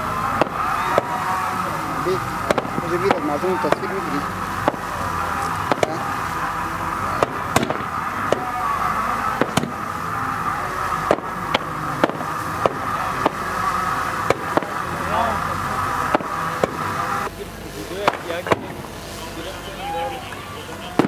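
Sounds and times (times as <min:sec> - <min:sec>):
fireworks bursting with sharp bangs: 0:00.0 - 0:21.0
steady background noise: 0:00.0 - 0:21.0.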